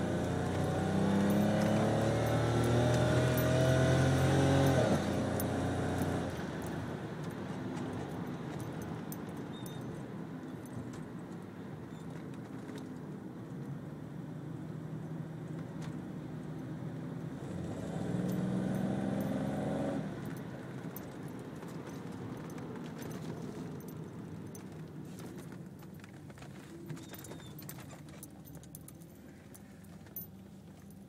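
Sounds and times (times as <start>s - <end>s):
car engine from inside cabin: 0.0s - 11.6s, 13.6s - 31.0s.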